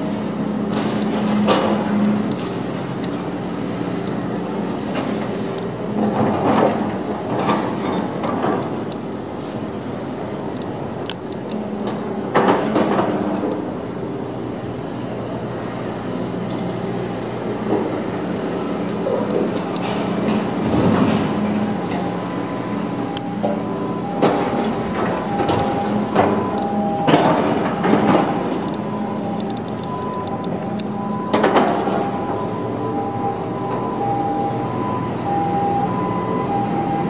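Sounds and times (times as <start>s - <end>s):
crane diesel engine running: 0.0s - 37.0s.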